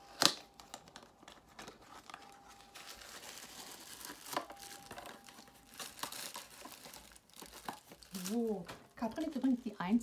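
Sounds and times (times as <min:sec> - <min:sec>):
gift wrapping crinkling: 0:00.0 - 0:10.0.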